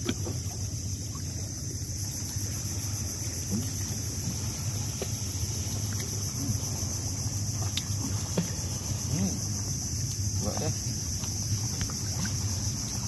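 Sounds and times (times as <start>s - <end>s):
low steady hum: 0.0s - 13.0s
high-pitched insect drone: 0.2s - 13.0s.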